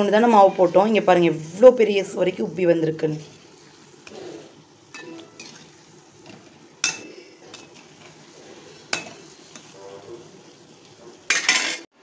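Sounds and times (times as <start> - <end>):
donut sizzling in hot oil: 0.0 - 12.0.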